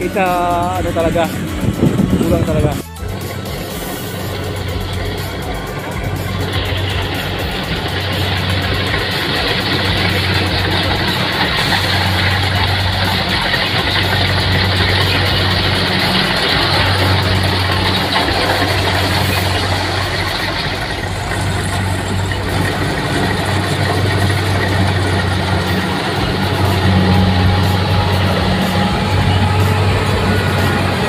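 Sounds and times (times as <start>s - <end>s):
combine harvester running: 0.0s - 31.0s.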